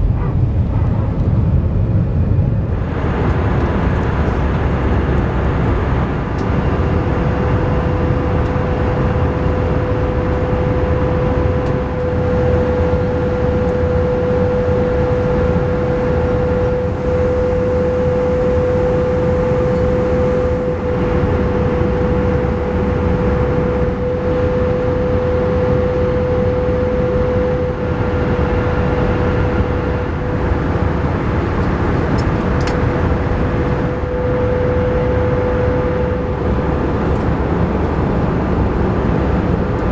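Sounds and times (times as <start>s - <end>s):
airliner cabin rumble: 0.0s - 39.9s
steady hum: 0.0s - 39.9s.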